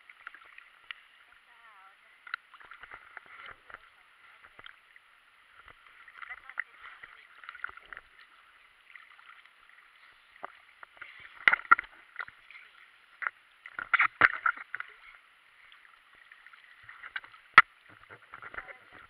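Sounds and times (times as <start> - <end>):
water sloshing against camera: 0.0 - 19.0.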